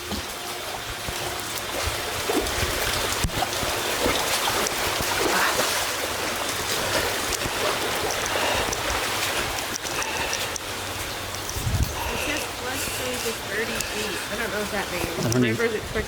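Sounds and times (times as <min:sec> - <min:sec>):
heavy rain: 0:00.0 - 0:16.0
running floodwater: 0:00.0 - 0:16.0.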